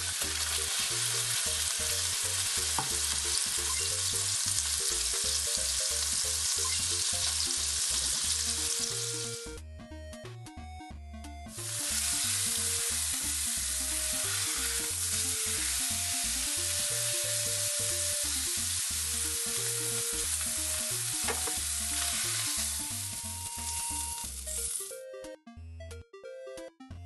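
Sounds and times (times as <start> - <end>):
steak sizzling in frying pan: 0.0 - 9.3, 11.6 - 24.9
light background music: 0.0 - 27.0.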